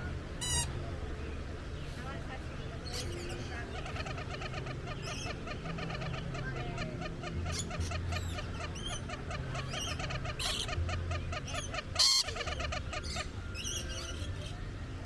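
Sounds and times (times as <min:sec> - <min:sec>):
lorikeets chattering: 0:00.0 - 0:15.0.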